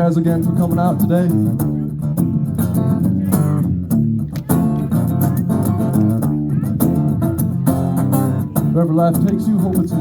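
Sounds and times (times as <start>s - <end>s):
bass line: 0.0s - 10.0s
guitar playing: 0.0s - 10.0s.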